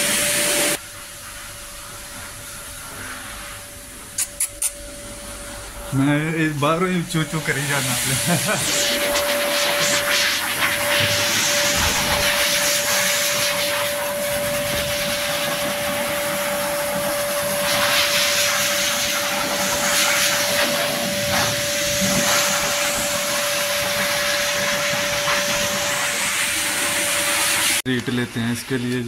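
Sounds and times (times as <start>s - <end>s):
dryer motor whine: 0.0s - 0.8s, 4.7s - 27.8s
dryer air rushing hiss: 0.0s - 27.8s.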